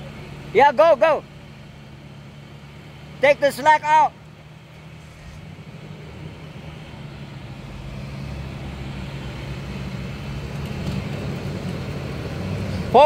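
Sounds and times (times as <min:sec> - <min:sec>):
truck engine running under load: 0:00.0 - 0:13.0.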